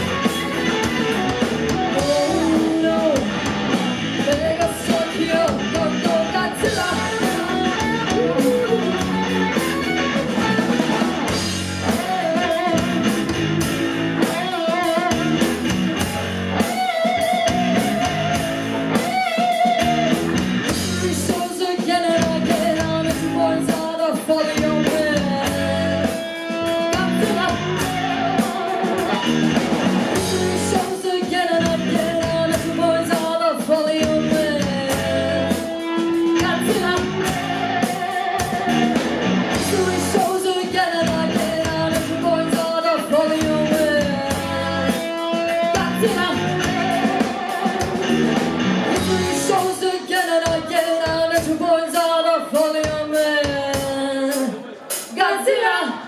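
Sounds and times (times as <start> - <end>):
electric guitars: 0.0 - 55.3
drum kit: 0.0 - 55.5
woman singing lead: 0.0 - 56.0.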